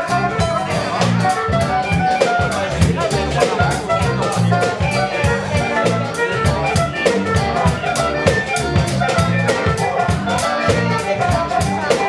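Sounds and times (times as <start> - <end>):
drum kit groove with hi-hat: 0.0 - 12.0
electric bass line: 0.0 - 12.0
wind instrument melody: 0.0 - 12.0.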